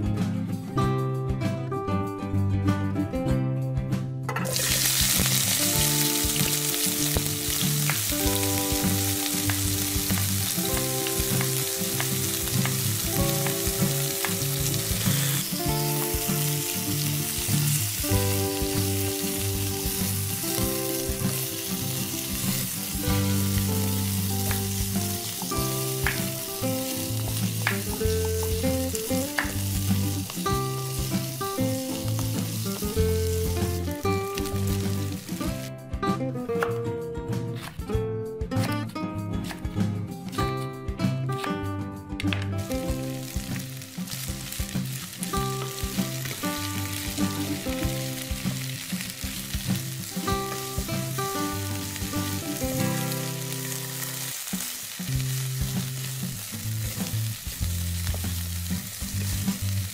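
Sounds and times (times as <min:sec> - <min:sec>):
background music: 0:00.0 - 0:59.9
food sizzling in hot oil: 0:04.4 - 0:35.7, 0:42.7 - 0:59.9.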